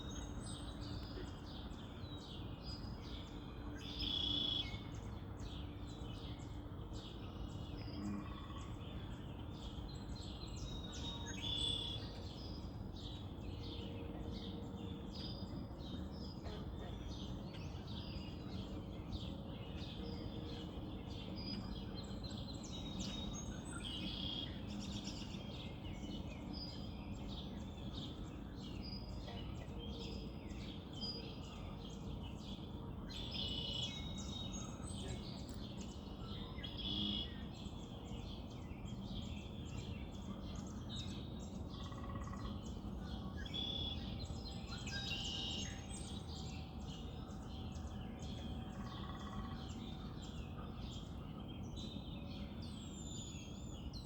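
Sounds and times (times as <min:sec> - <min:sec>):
birds chirping and singing: 0:00.0 - 0:54.0
low background noise: 0:00.0 - 0:54.0.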